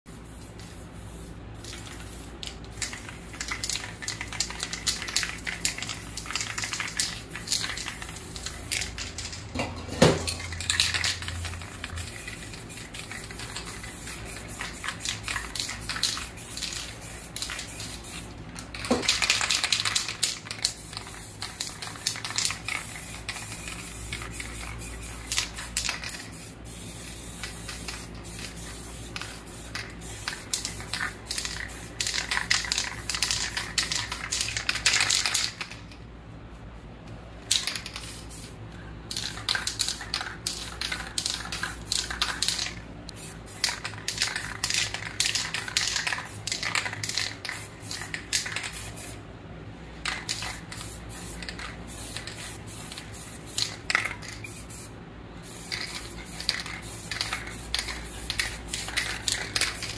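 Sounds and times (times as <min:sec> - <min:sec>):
spray-paint cans hissing: 0:00.1 - 0:36.0, 0:37.4 - 0:49.2, 0:50.0 - 0:59.9.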